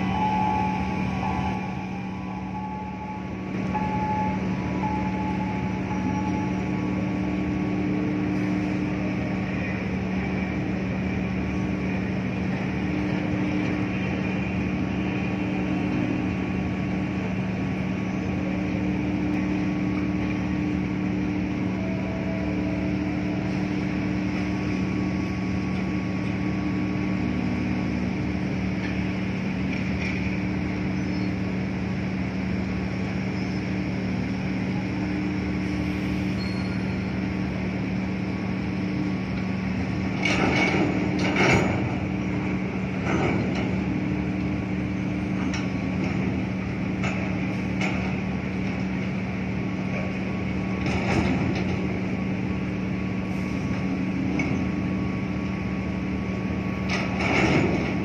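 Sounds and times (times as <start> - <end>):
ship engines droning: 0.0 - 58.0.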